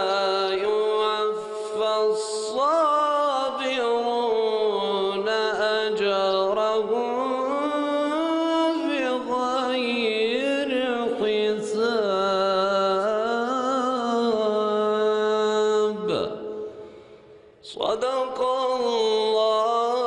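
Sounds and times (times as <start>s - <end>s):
man chanting melodically: 0.0s - 16.8s, 17.6s - 20.0s.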